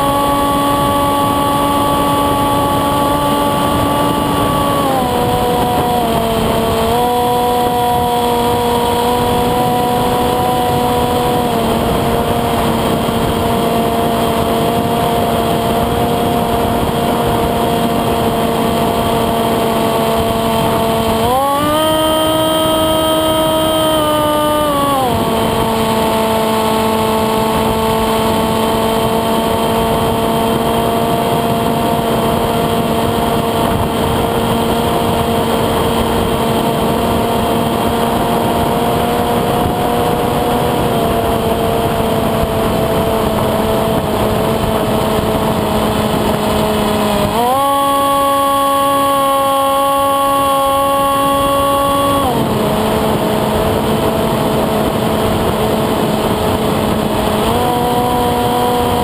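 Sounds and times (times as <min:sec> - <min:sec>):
electric motor and propeller whine: 0:00.0 - 0:59.0
rush of wind: 0:00.0 - 0:59.0.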